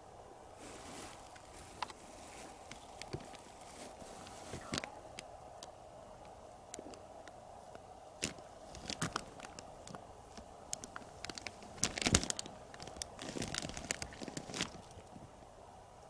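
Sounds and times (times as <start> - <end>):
faint steady hum: 0.0 - 16.0
rustling: 0.5 - 15.3.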